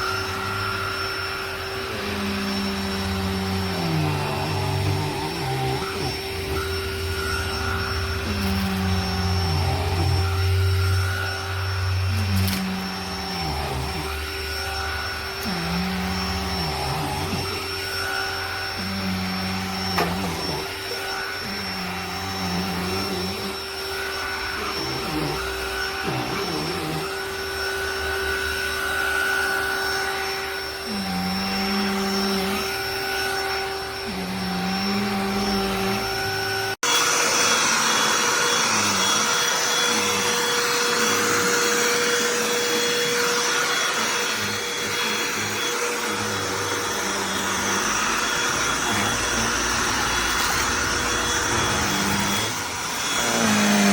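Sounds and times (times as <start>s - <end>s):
handheld vacuum motor whine: 0.0s - 53.9s.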